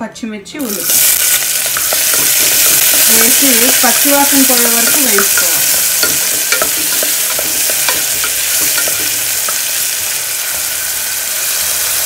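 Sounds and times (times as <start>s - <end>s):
onion sizzling in ghee: 0.6s - 12.0s
utensil scraping a pot: 0.8s - 10.8s.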